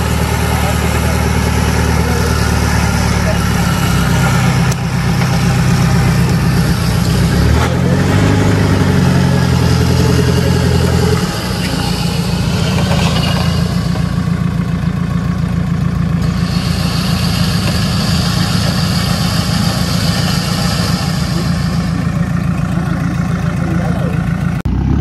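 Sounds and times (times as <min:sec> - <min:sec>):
vehicle engine running at low revs: 0:00.0 - 0:25.0.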